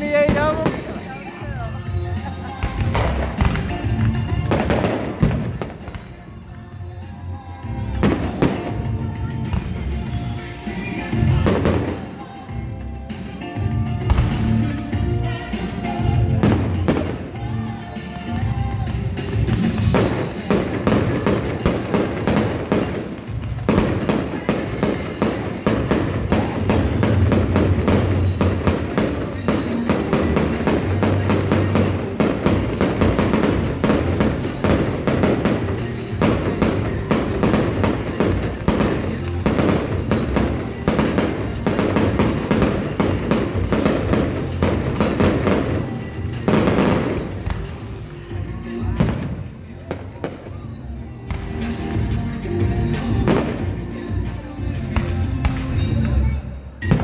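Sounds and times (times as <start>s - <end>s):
fireworks booming: 0.0s - 57.0s
music over stadium speakers: 0.0s - 57.0s.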